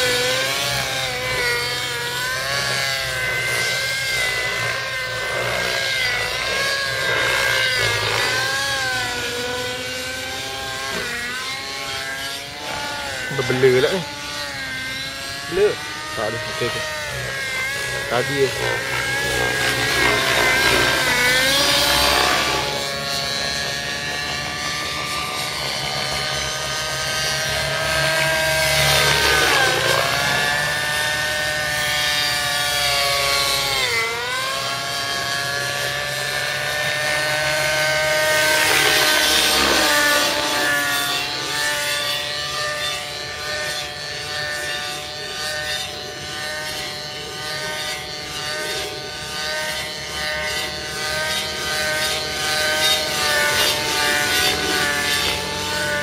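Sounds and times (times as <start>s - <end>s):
model helicopter engine whine: 0.0s - 56.0s.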